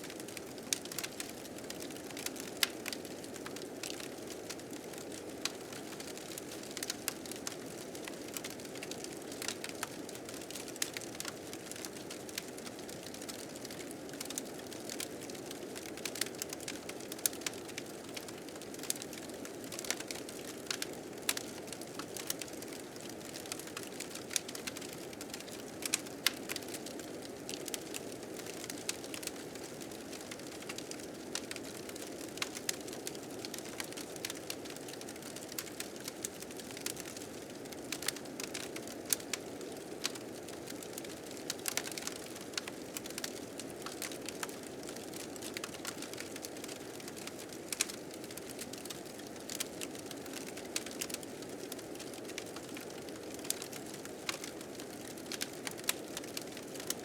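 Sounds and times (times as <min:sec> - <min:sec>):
fire crackling: 0:00.1 - 0:57.0.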